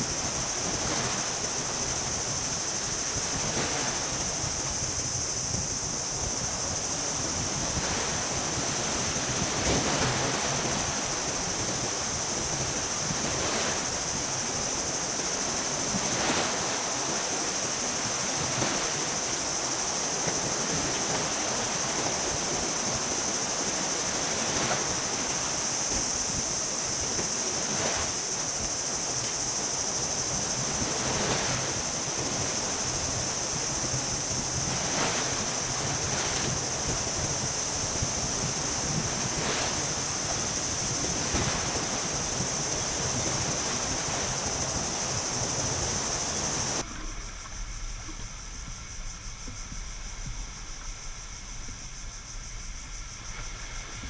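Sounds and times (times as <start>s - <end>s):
sea waves washing onto shore: 0.0s - 46.9s
high-pitched hiss: 0.0s - 54.0s.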